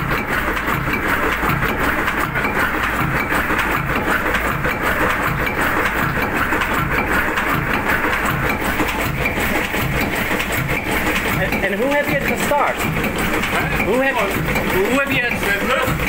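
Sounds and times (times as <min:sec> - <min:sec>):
slow diesel engine running: 0:00.0 - 0:16.0
valve gear clatter: 0:00.0 - 0:16.0.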